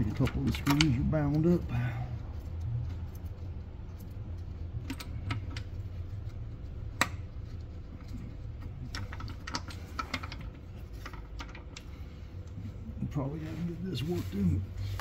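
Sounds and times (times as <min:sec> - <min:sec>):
light clicks and taps: 0:00.0 - 0:12.6
steady low hum: 0:00.0 - 0:15.0.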